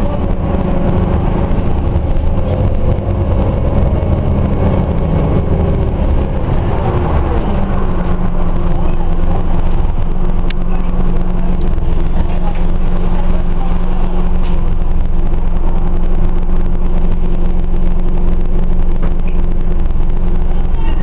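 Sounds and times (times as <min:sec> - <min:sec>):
bus diesel engine running: 0:00.0 - 0:21.0
low road rumble: 0:00.0 - 0:21.0.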